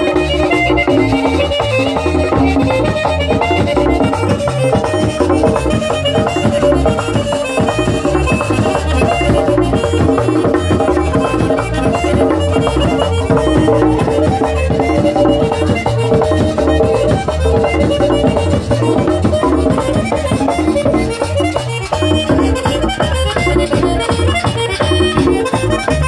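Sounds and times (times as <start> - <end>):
accordion melody: 0.0 - 26.0
hand drum beat: 0.0 - 26.0.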